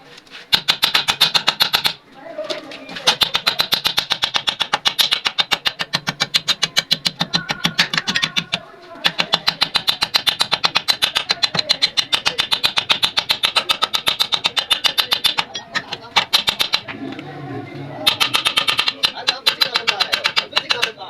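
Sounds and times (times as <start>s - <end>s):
sewing machine clicking: 0.5s - 2.0s, 3.0s - 16.9s, 18.0s - 21.0s.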